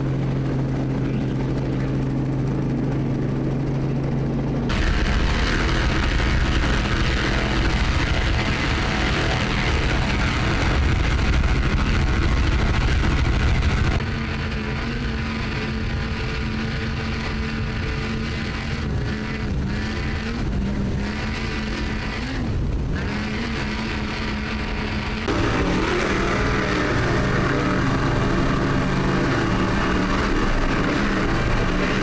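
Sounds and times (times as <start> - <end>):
boat engine wavering tone: 0.0 - 32.0
powerboat engine drone: 0.0 - 32.0.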